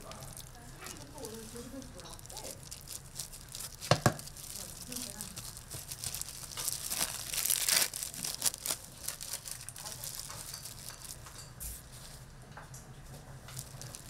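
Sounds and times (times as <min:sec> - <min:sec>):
food wrapping crinkling: 0:00.0 - 0:12.3, 0:13.3 - 0:14.0.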